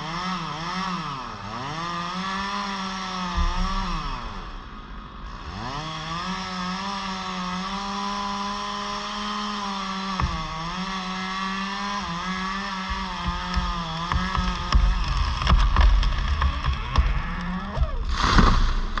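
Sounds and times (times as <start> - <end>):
chainsaw revving: 0.0 - 19.0
chainsaw knock: 1.6 - 19.0.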